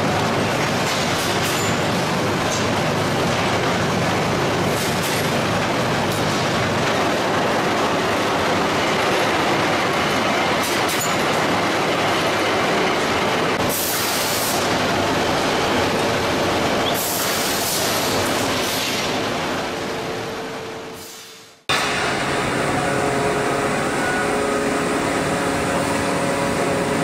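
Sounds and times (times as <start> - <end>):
rolling mill clatter and rumble: 0.0 - 20.1, 21.7 - 27.0.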